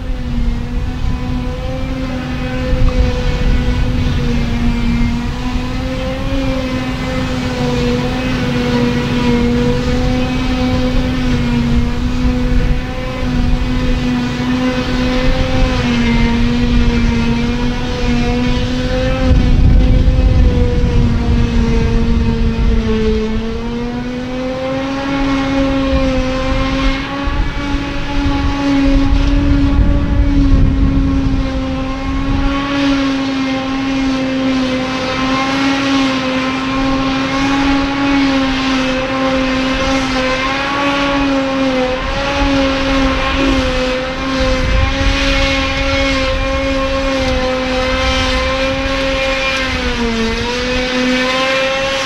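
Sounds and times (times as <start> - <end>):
forage harvester chopping grass: 0.0 - 52.0.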